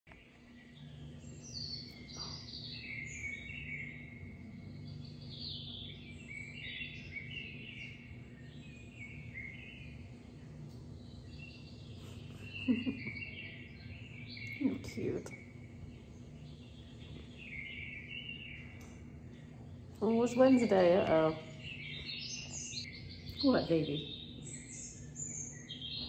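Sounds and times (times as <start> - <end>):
birds chirping and singing: 0.1 - 26.0
low hum: 0.1 - 26.0.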